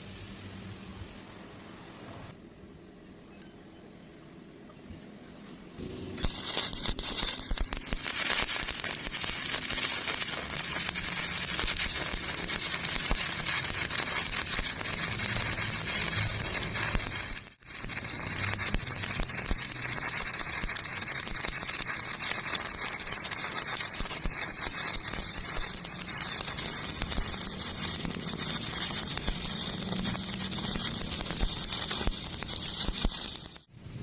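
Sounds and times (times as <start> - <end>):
welding arc crackling hiss: 5.9 - 33.7.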